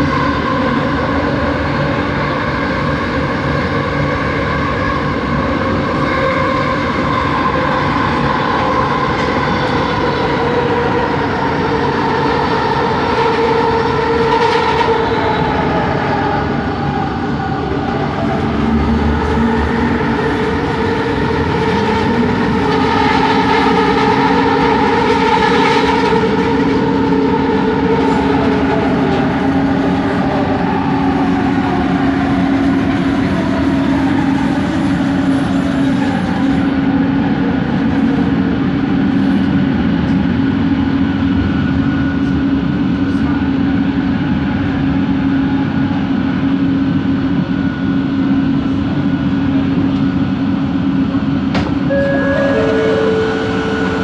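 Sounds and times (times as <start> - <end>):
train motor hum and whine: 0.0 - 54.0
train running rumble: 0.0 - 54.0.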